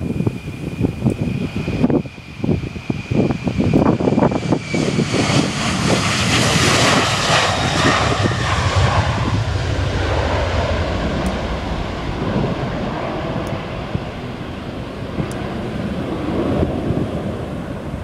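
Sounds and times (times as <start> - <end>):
jet engines at takeoff power: 0.0 - 18.0.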